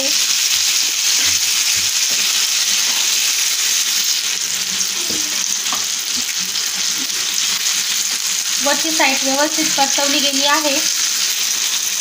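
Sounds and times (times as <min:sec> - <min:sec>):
oil sizzling around frying fish: 0:00.0 - 0:12.0.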